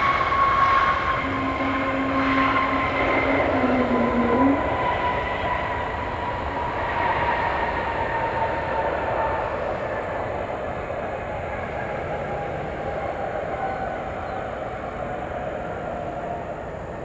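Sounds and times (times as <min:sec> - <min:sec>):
jet engines roaring with whine: 0:00.0 - 0:17.0.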